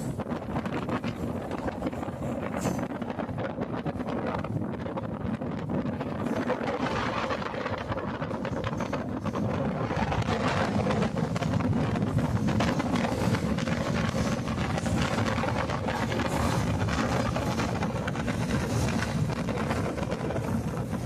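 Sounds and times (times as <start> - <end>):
rapid rattling and clicking: 0.0 - 21.0
train rumbling on track: 0.0 - 21.0
wind buffeting microphone: 0.0 - 21.0.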